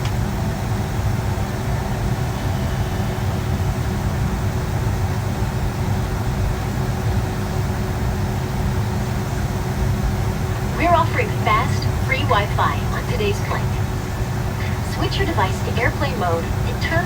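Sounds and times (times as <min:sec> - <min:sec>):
cabin air system hum: 0:00.0 - 0:17.0
jet engines at low power: 0:00.0 - 0:17.0.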